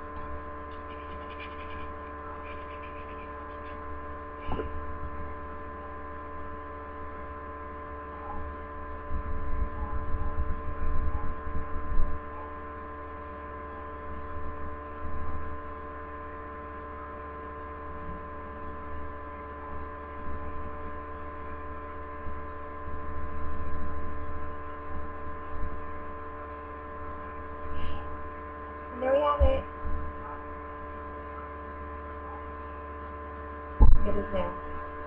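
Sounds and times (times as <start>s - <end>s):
uneven low rumble: 0.0s - 13.2s, 17.7s - 35.0s
electrical hum with whining tones: 0.0s - 35.0s.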